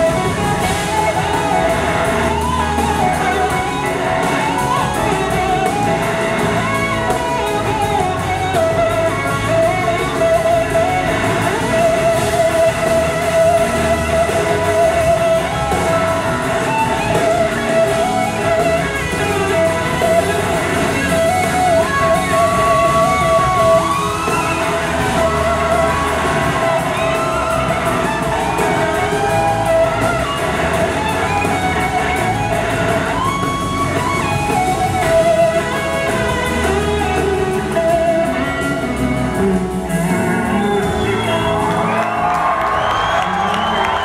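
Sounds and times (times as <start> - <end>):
drums and cymbals: 0.0 - 44.0
electric slide guitar lead: 0.0 - 44.0
second electric guitar: 0.0 - 44.0.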